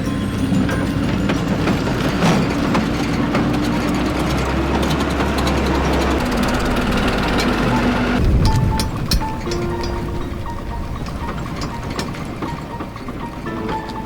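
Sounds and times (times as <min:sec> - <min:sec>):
rapid clicking and rattling: 0:00.0 - 0:14.0
truck engine humming: 0:00.0 - 0:14.0.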